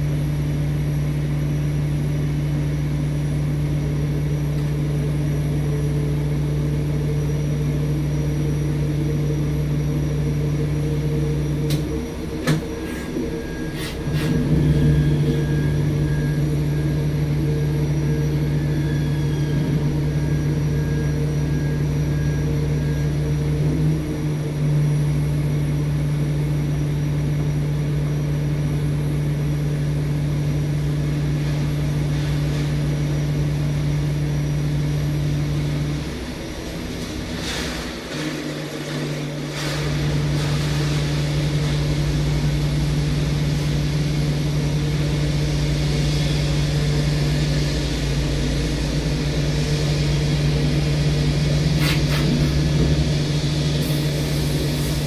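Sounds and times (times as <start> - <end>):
machinery droning: 0.0 - 55.0.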